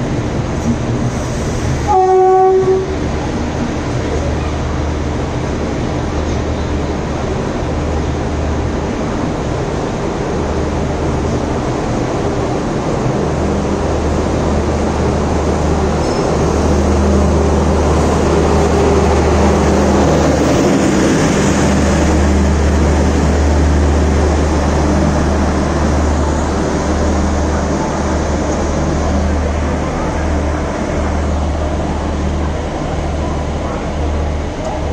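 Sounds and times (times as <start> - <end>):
train coaches rumbling past: 0.0 - 34.9.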